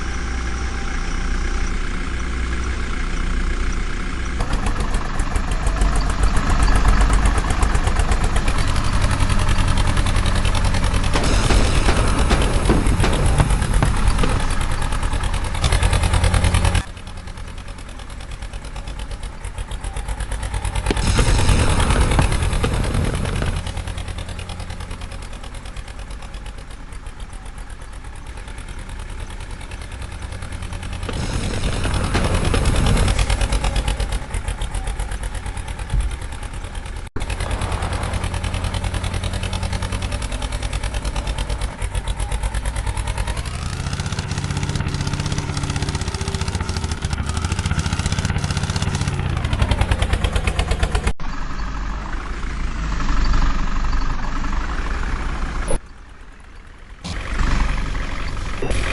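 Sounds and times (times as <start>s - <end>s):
heavy diesel engine revving: 0.0s - 58.9s.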